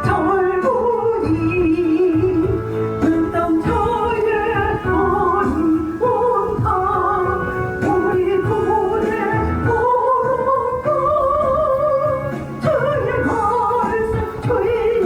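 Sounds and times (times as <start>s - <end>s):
instrumental backing music: 0.0s - 15.0s
woman singing with vibrato: 0.0s - 15.0s.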